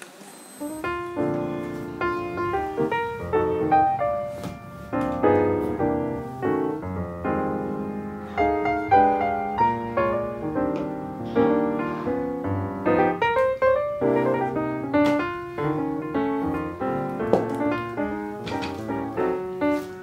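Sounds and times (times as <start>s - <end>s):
piano melody: 0.6s - 20.0s.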